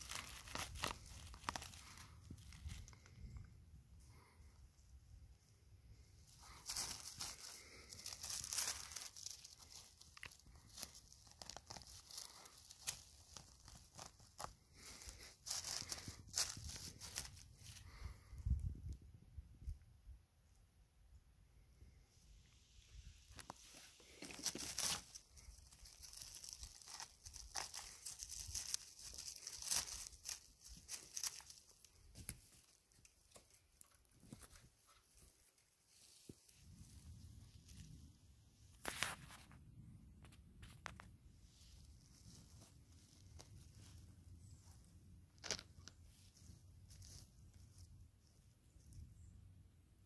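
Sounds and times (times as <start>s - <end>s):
twigs and needles crackling: 0.0s - 19.0s, 22.9s - 50.0s.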